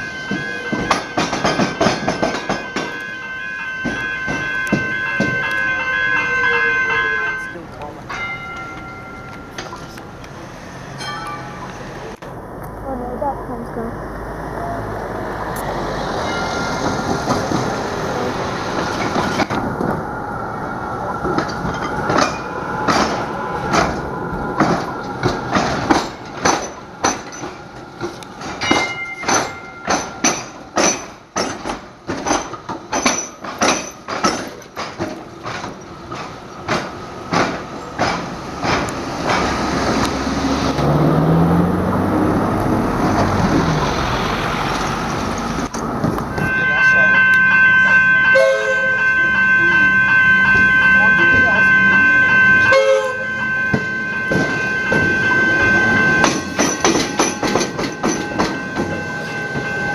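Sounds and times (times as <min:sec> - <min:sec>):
train wheels clacking over crossing: 0:00.0 - 0:12.2, 0:15.6 - 0:20.0, 0:21.0 - 0:41.6, 0:42.9 - 0:59.9
train rumble: 0:00.0 - 0:59.9.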